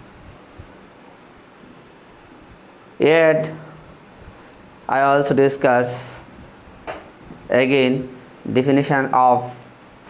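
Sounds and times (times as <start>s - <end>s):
low room hiss: 0.0s - 10.0s.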